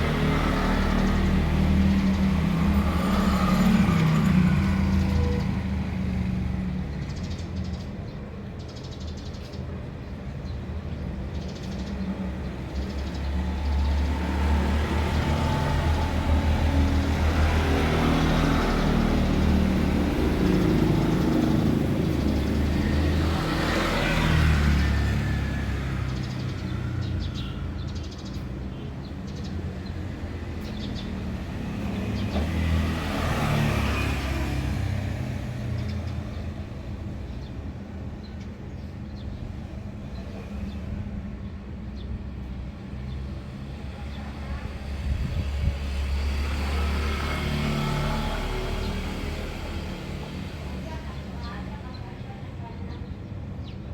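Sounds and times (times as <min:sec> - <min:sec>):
passing traffic engine rumble: 0:00.0 - 0:53.9.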